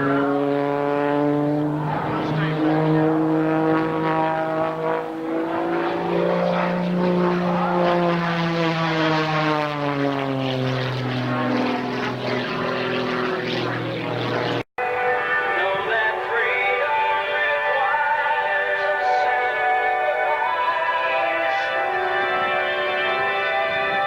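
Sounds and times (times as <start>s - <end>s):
propeller plane engine passing: 0.0s - 24.0s.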